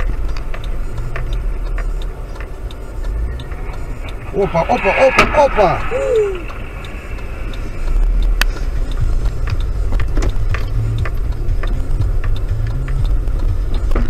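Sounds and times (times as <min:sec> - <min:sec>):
car engine and tyres rumble: 0:00.0 - 0:14.0.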